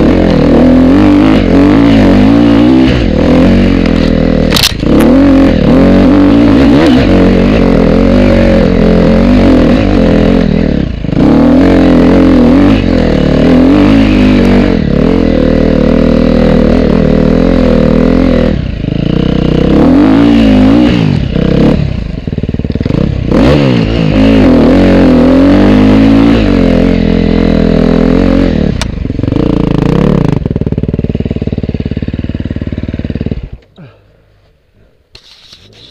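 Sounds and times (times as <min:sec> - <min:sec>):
off-road motorcycle engine: 0:00.0 - 0:35.9.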